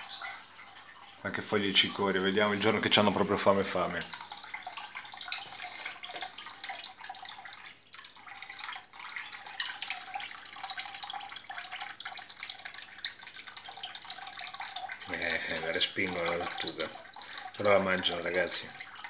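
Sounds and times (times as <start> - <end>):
water drips and plinks: 0.0 - 19.0
water trickling and bubbling: 0.0 - 19.0.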